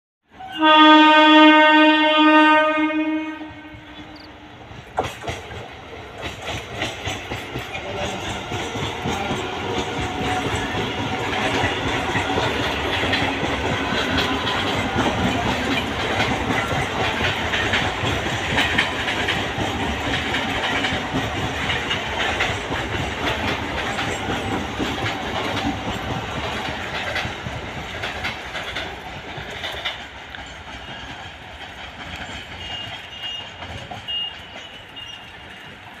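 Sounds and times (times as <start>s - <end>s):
train wheels clattering over rails: 4.2s - 36.0s.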